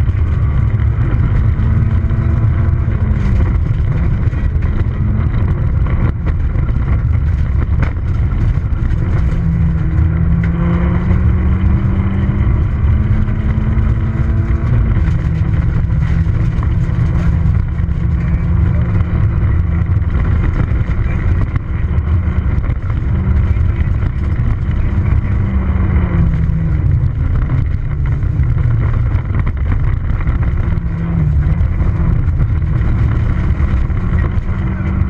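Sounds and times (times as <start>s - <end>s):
rally car engine at high revs: 0.0s - 35.0s.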